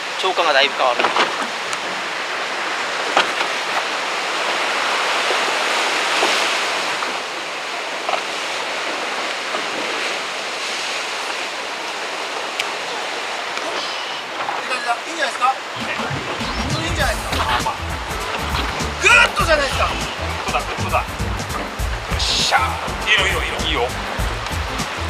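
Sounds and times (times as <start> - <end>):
surf washing on rocky shore: 0.0 - 25.0.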